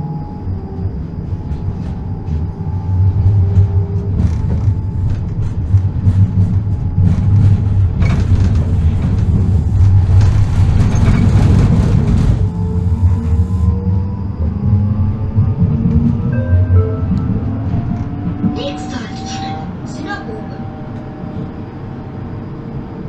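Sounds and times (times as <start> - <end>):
tram rumbling: 0.0 - 23.0.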